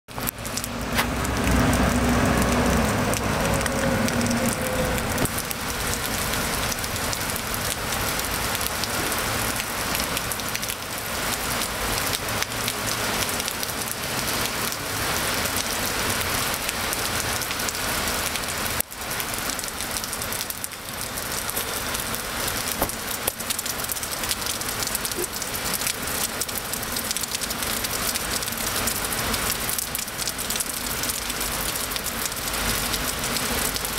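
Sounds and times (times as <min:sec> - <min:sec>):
rain on stone paving: 0:00.1 - 0:33.9.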